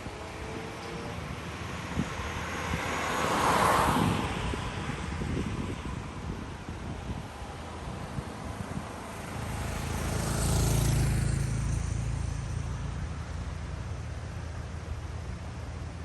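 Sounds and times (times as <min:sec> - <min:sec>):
car passing by: 0:00.0 - 0:16.0
low rumble of road noise: 0:00.0 - 0:16.0.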